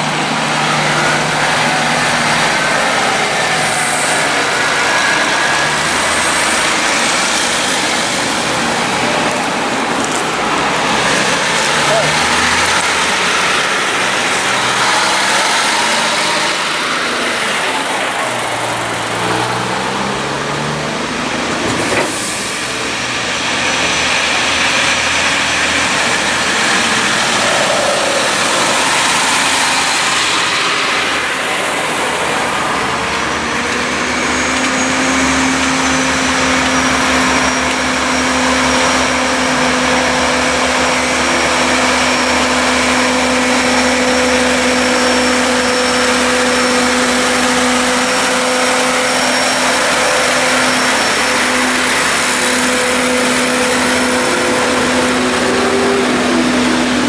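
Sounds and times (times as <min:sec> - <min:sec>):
heavy highway traffic: 0:00.0 - 0:57.0
truck engine: 0:00.0 - 0:57.0.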